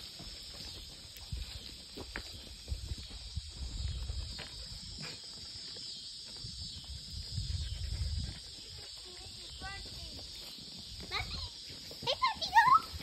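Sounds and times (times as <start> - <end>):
footsteps on gravel: 0.0 - 7.0, 8.4 - 13.0
insects chirping: 0.0 - 13.0.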